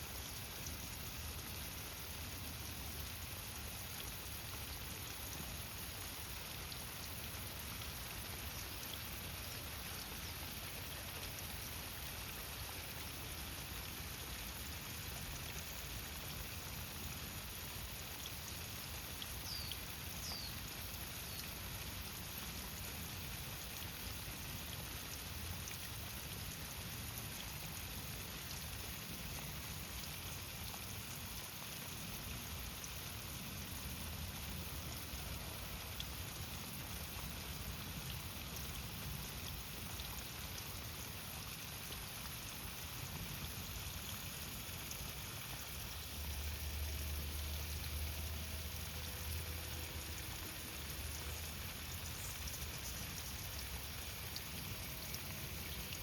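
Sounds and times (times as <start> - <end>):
outdoor hiss: 0.0 - 56.0.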